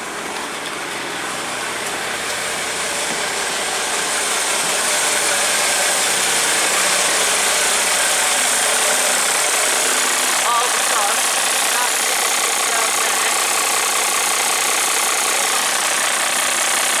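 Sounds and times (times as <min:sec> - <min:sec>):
bus diesel engine clatter: 0:00.0 - 0:17.0.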